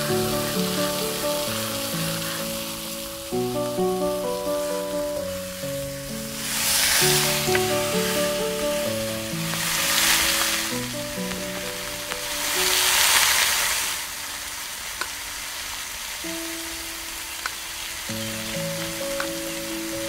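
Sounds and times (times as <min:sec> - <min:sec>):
oil sizzling on a griddle: 0:00.0 - 0:20.0.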